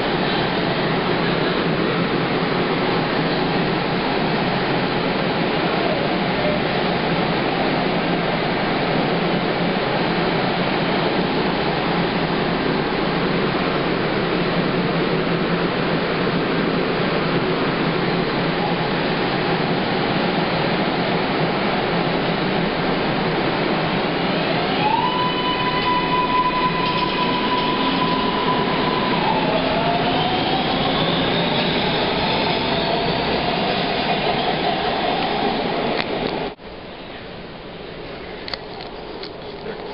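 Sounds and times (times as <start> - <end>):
metro train wheels rumbling: 0.0 - 39.9.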